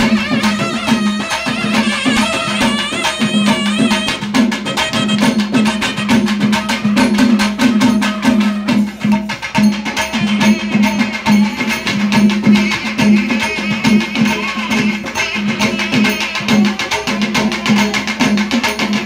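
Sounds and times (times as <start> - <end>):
fast drum and clapper strokes: 0.0 - 19.0.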